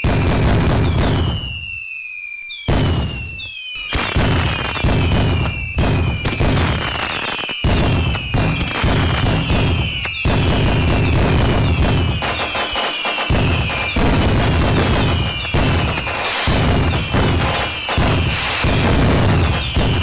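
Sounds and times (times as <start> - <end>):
falling firework whistle: 0.0 - 20.0
fireworks bangs: 0.0 - 20.0.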